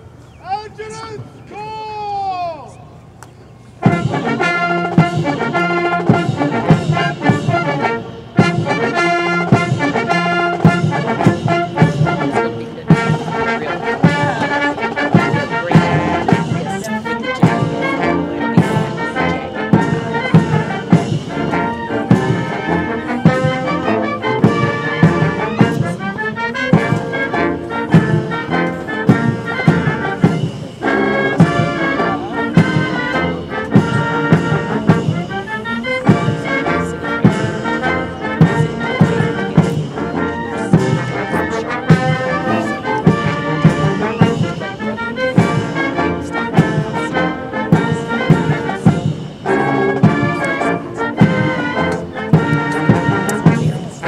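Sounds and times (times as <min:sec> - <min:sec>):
brass band playing a march: 0:03.7 - 0:54.0.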